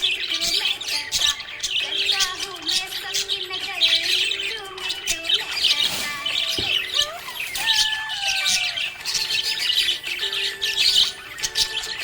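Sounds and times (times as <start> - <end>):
parrots chirping and squawking: 0.0 - 12.0.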